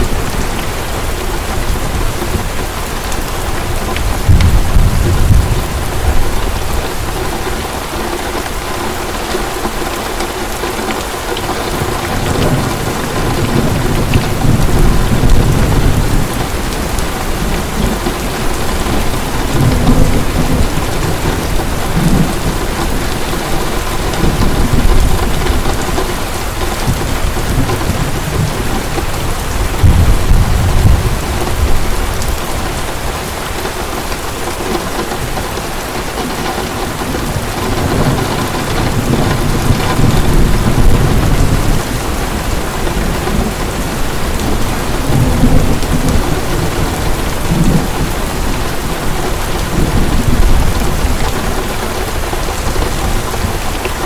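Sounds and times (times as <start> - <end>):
thunder rumbling: 0.0 - 8.5, 10.4 - 54.0
heavy rain: 0.0 - 54.0.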